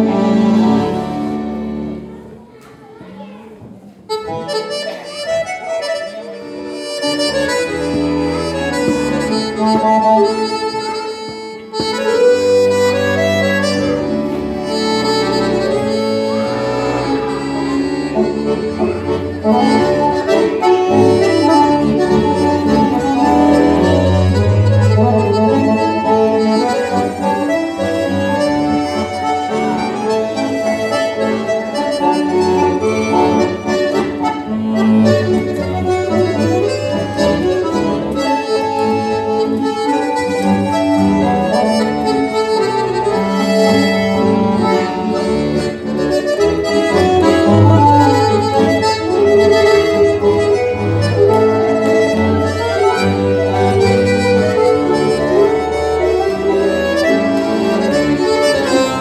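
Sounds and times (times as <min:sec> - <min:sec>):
accordion trio playing a tune: 0:00.0 - 0:59.0.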